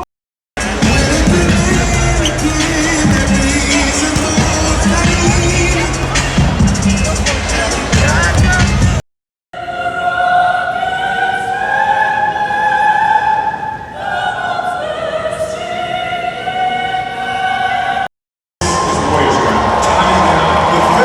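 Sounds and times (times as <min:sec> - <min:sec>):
operatic singing: 0:00.6 - 0:09.0, 0:09.6 - 0:18.1.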